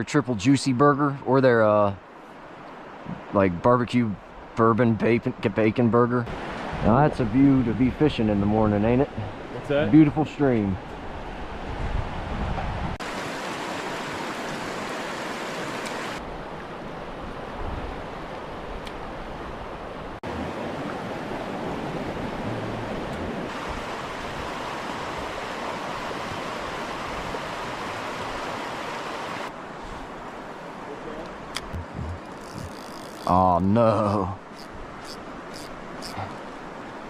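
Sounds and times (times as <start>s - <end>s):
rushing stream water: 0.0s - 37.0s.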